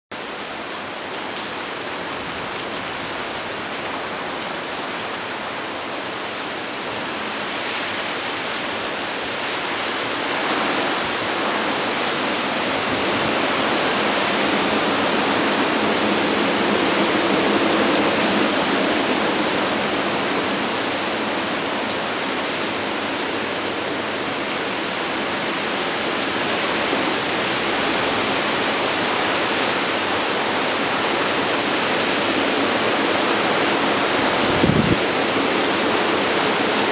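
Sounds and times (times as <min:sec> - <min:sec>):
gusty wind rushing through trees: 0:00.1 - 0:36.9.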